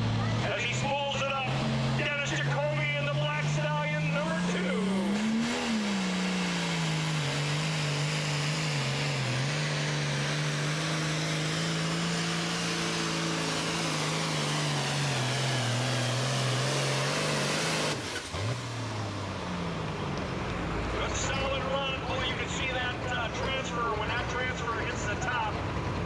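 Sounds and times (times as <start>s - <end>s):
tractor diesel engine at full throttle: 0.0s - 26.0s.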